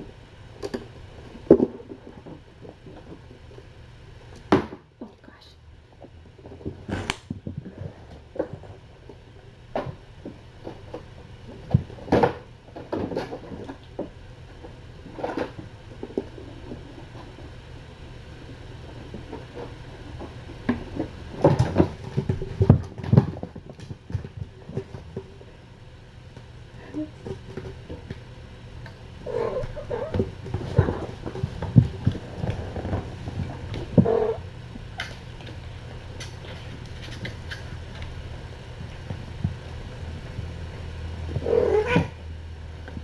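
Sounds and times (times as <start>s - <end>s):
steady low hum: 5.1s - 43.0s.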